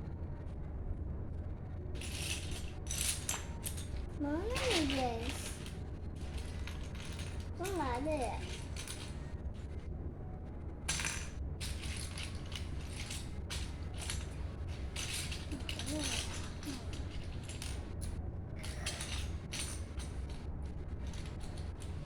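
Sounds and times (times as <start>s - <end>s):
steady low hum: 0.0s - 22.0s
plastic bricks clattering: 2.0s - 9.7s, 10.9s - 22.0s.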